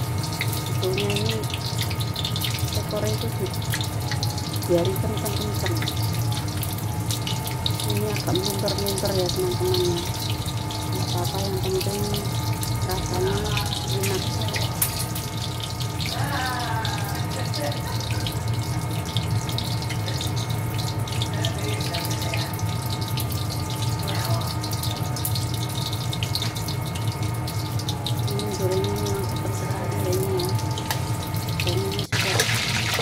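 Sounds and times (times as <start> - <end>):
food deep-frying in hot oil: 0.0 - 33.0
low hum: 0.0 - 33.0.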